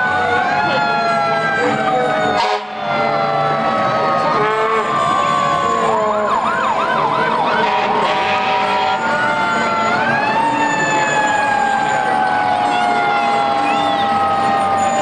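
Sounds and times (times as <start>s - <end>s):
fire truck siren wailing: 0.0s - 15.0s
siren rising and falling: 0.0s - 15.0s
siren yelp warbling: 0.0s - 15.0s.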